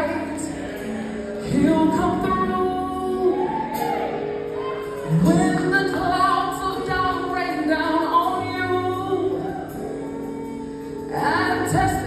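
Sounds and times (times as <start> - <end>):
woman singing gospel: 0.0 - 12.0.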